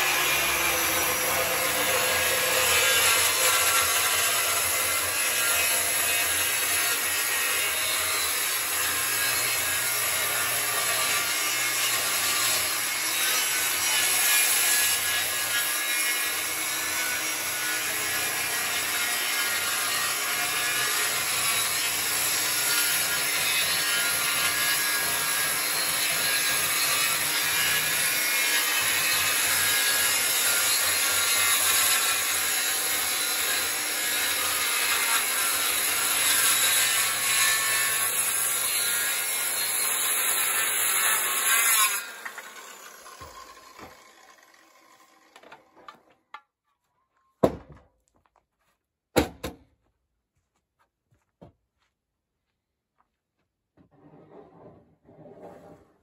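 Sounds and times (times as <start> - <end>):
circular saw cutting wood: 0.0 - 46.0.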